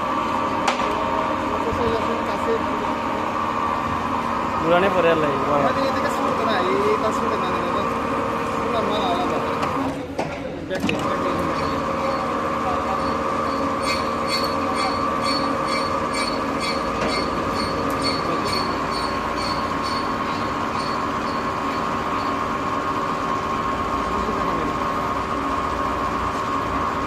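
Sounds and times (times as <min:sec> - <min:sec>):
metal lathe high whine: 0:01.2 - 0:09.9, 0:11.0 - 0:27.0.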